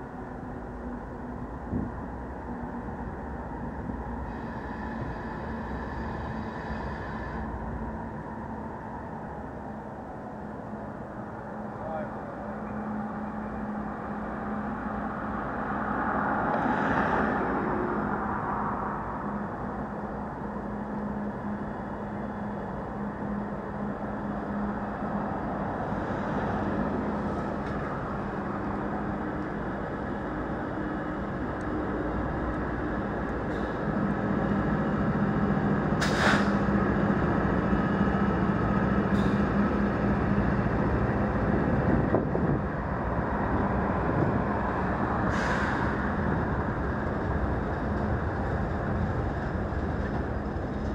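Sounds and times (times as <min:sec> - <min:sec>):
freight train rumbling on rails: 0:00.0 - 0:50.9.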